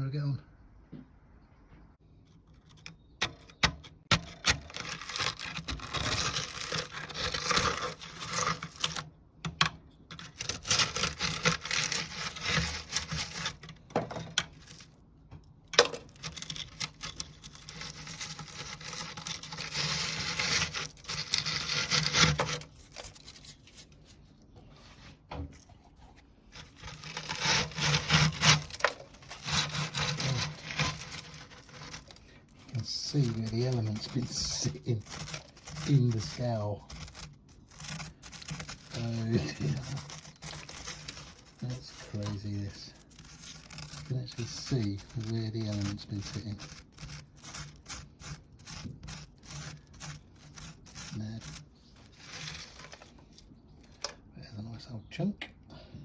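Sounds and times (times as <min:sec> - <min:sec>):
limescale scraping and rasping: 0:02.2 - 0:54.2.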